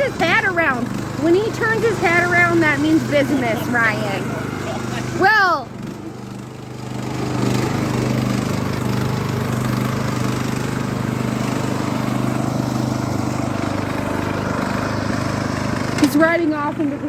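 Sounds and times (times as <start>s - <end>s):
riding lawn mower engine running: 0.0s - 17.0s.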